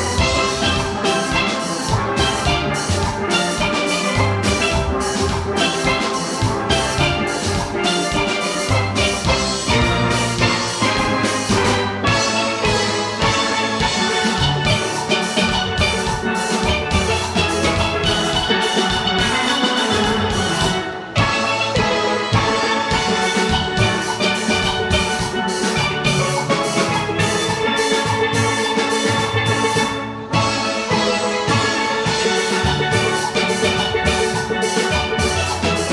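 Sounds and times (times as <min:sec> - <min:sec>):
drum kit beat: 0:00.0 - 0:30.7, 0:31.5 - 0:35.9
bass pan notes: 0:00.0 - 0:35.9
steelpans playing melody: 0:00.0 - 0:35.9.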